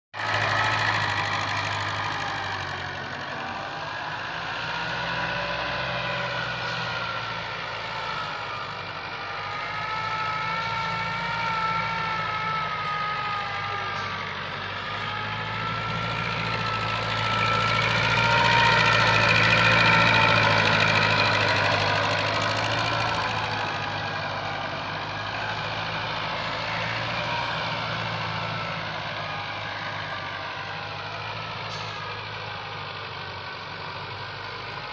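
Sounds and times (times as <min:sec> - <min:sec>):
high engine whine: 0:00.2 - 0:34.9
tractor diesel engine droning: 0:00.2 - 0:34.9.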